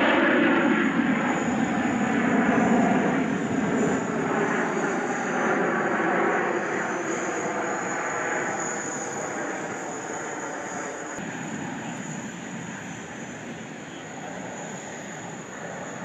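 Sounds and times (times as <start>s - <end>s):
jet engines passing overhead: 0.0s - 16.0s.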